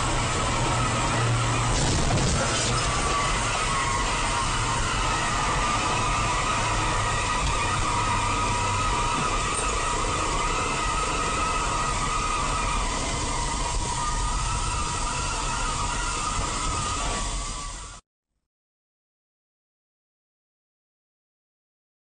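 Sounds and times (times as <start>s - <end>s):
constant whine: 0.0s - 18.0s
moving vehicle noise: 0.0s - 18.0s.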